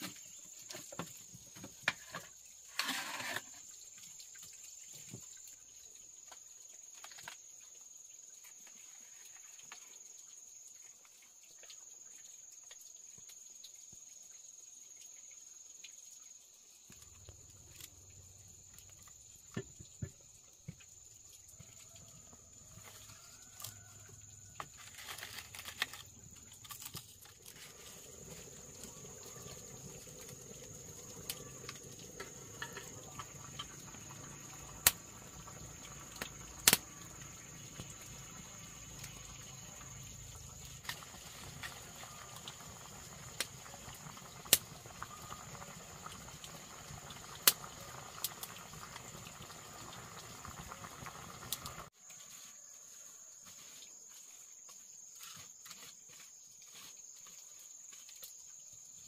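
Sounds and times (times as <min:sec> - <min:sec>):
water trickling: 0:00.2 - 0:51.9.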